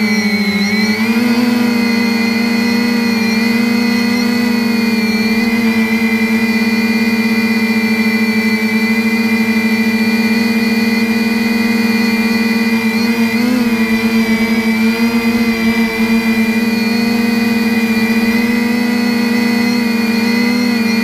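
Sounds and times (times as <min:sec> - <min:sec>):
quadcopter buzzing whine: 0:00.0 - 0:21.0.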